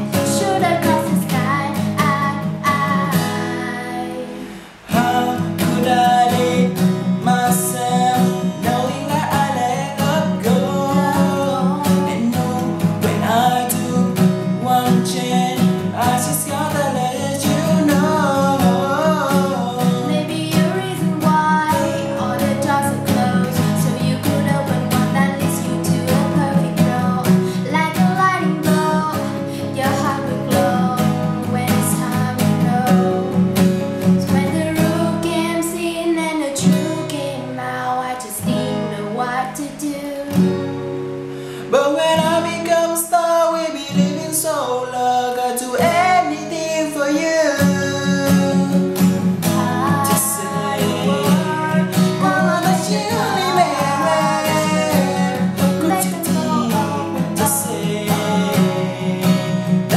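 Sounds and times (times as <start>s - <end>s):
person singing: 0.0s - 40.4s, 41.4s - 59.9s
guitar strumming: 0.0s - 59.9s.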